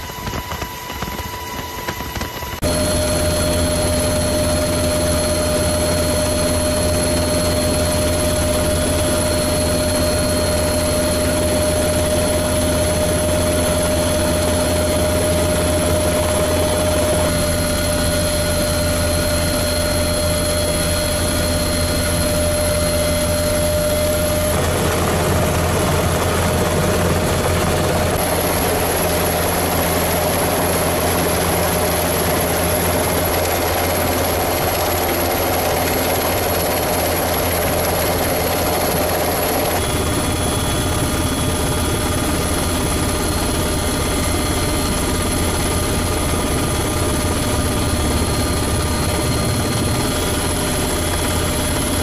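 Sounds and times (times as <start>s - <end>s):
helicopter turbine and rotor drone: 0.0s - 52.0s.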